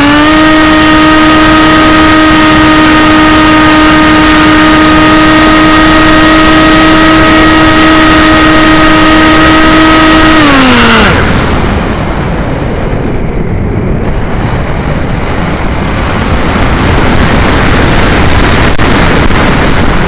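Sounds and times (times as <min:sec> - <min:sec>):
electric motor and propeller whining: 0:00.0 - 0:20.0
wind rush: 0:00.0 - 0:20.0.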